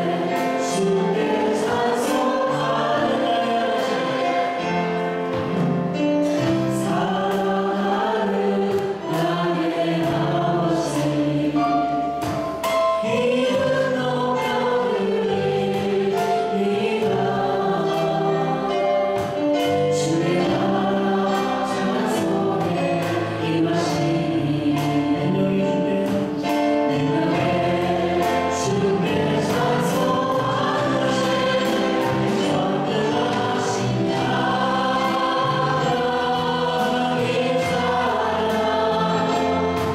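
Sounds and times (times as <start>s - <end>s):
instrumental accompaniment: 0.0s - 39.9s
voices singing a worship song: 0.0s - 39.9s.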